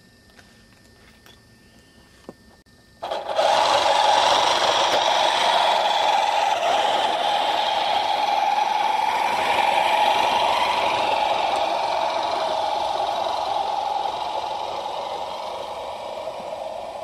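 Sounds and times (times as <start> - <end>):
model locomotive mechanical drone: 2.0 - 17.0.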